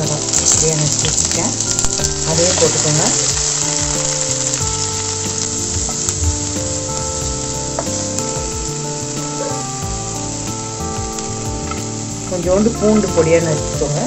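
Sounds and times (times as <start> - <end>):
onion sizzling in hot oil: 0.0 - 14.0.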